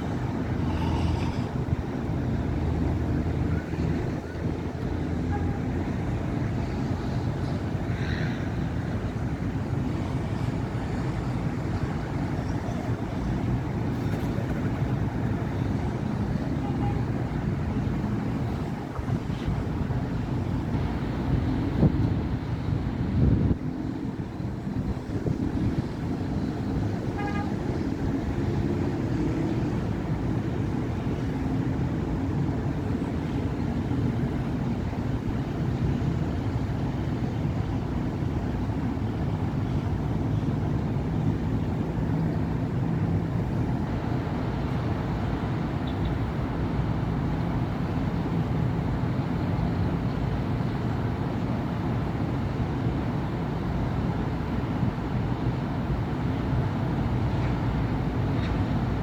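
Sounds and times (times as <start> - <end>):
traffic passing: 0.0 - 59.0.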